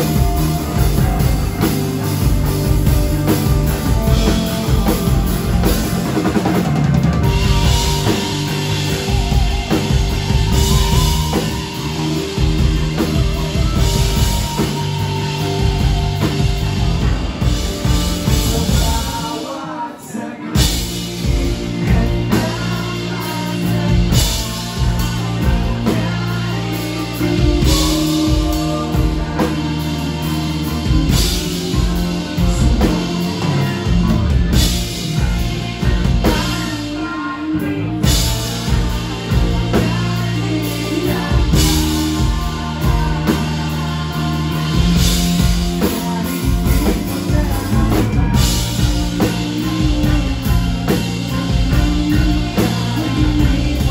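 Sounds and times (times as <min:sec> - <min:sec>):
pop-rock band playing: 0:00.0 - 0:53.9.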